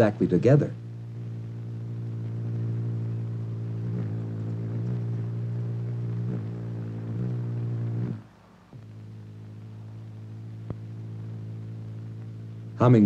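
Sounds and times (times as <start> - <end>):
low buzzy drone: 0.0 - 13.0.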